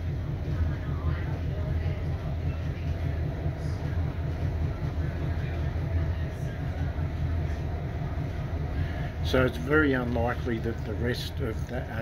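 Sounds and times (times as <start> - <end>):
railcar engine rumble: 0.0 - 12.0.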